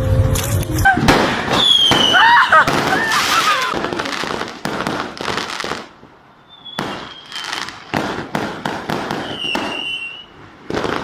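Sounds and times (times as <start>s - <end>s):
firework whistle: 0.0s - 4.5s, 6.3s - 11.0s
fireworks crackle: 0.3s - 11.0s
fireworks bangs: 0.8s - 11.0s.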